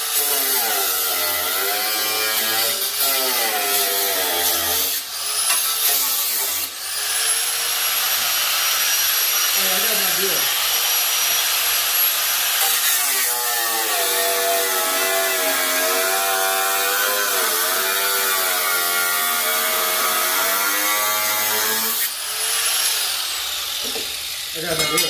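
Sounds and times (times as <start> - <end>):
power tool cutting sheet metal: 0.0 - 25.0.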